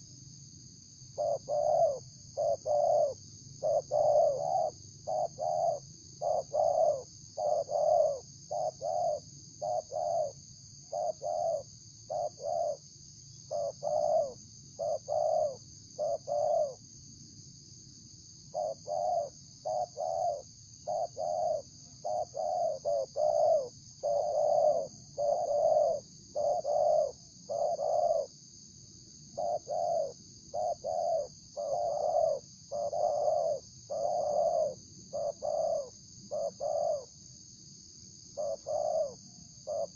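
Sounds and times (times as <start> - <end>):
dove cooing: 1.2 - 12.8, 13.5 - 16.8, 18.5 - 28.3, 29.4 - 37.1, 38.4 - 39.9.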